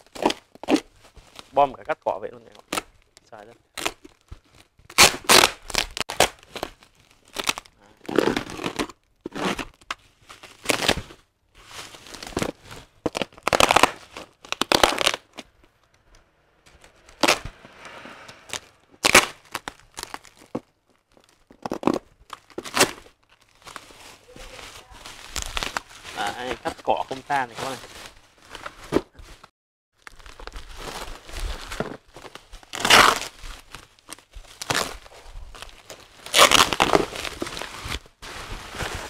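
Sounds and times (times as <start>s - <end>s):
bubble wrap and tape crinkling: 0.0s - 17.5s, 18.5s - 39.0s.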